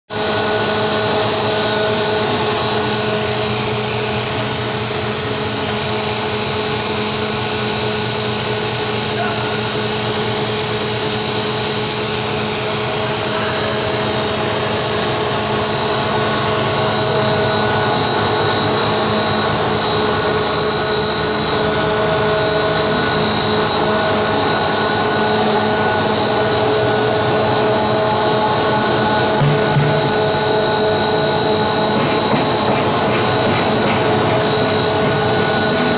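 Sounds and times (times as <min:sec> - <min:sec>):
extruder machine drone with whine: 0:00.1 - 0:35.9.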